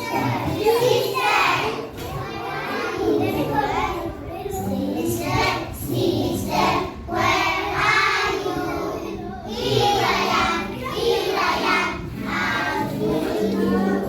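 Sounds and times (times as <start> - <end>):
children singing: 0.0 - 14.0
music: 0.0 - 14.0.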